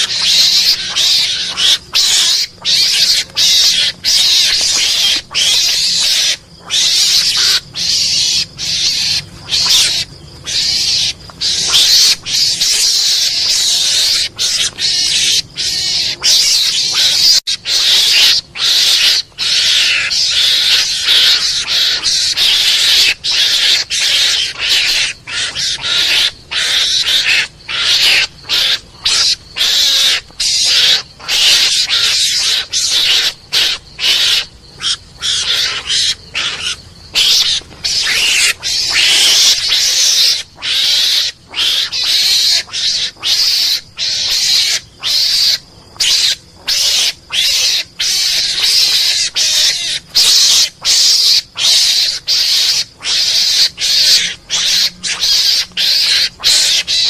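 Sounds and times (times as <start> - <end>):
mongoose chattering cries: 0.0 - 57.0.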